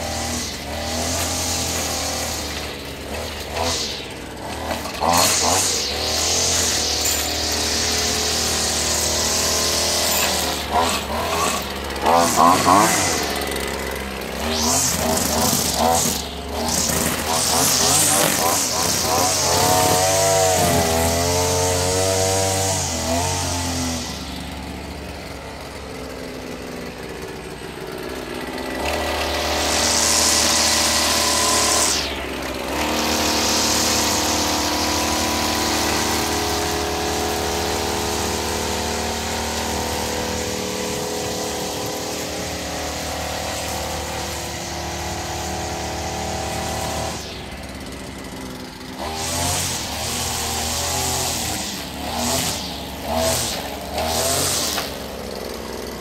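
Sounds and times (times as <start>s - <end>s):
string trimmer engine revving: 0.0s - 56.0s.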